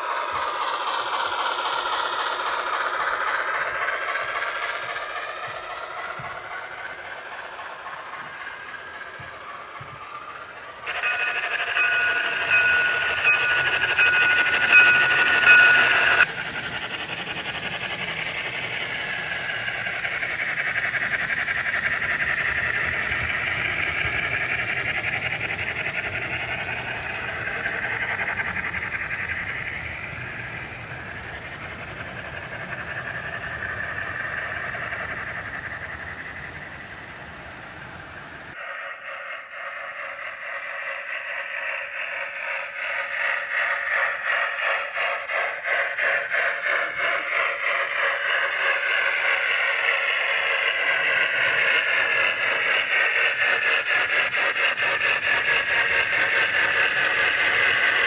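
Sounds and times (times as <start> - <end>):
steady two-tone sound: 0.0 - 53.6
model trains running: 0.0 - 58.0.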